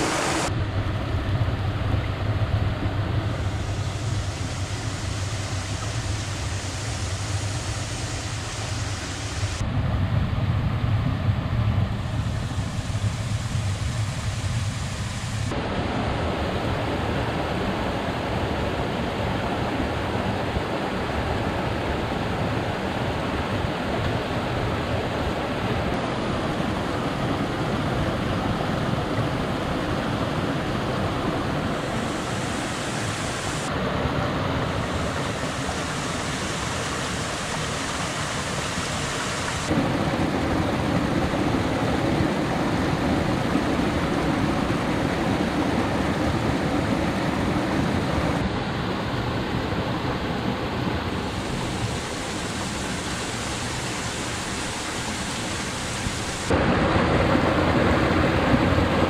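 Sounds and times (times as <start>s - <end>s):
stream water rushing: 0.0s - 0.6s, 2.0s - 9.6s, 12.3s - 59.0s.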